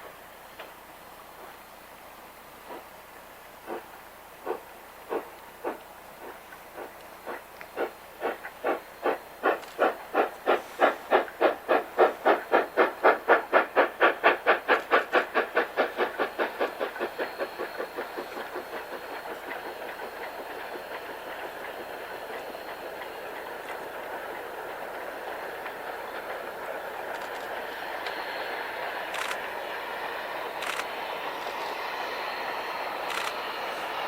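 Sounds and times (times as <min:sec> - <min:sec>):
steam locomotive exhaust chuffing: 0:00.0 - 0:34.0
train cars rumbling over rails: 0:00.0 - 0:34.0.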